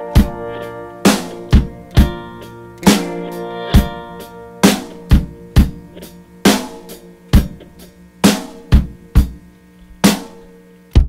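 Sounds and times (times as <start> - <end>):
drum kit hits: 0.0 - 9.4, 10.0 - 11.0
held chord: 0.0 - 9.4.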